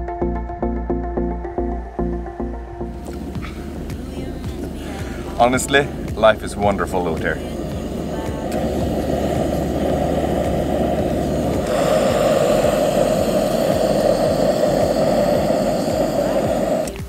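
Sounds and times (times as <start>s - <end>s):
gas stove burner roaring: 3.0s - 17.0s.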